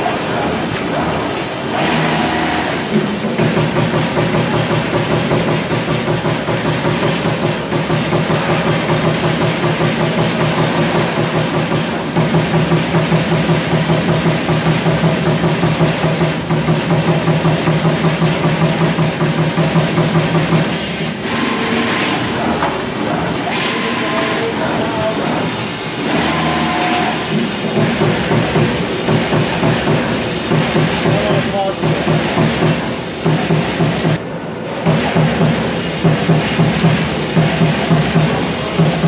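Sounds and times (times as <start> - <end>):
steady machine drone: 0.0 - 5.9, 7.6 - 39.0.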